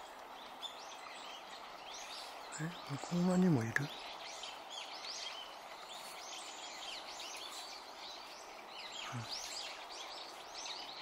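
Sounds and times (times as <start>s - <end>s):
background hiss: 0.0s - 11.0s
flock of birds chirping: 0.0s - 11.0s.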